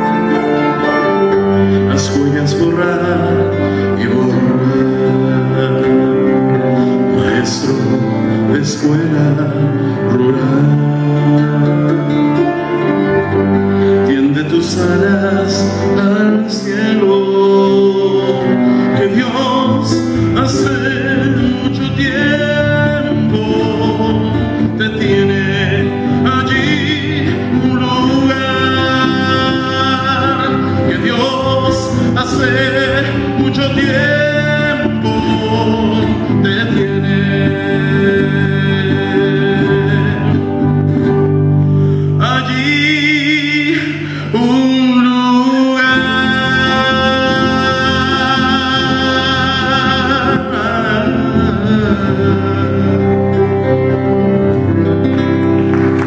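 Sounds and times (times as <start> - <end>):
acoustic guitar: 0.0 - 56.0
man singing with vibrato: 0.0 - 56.0.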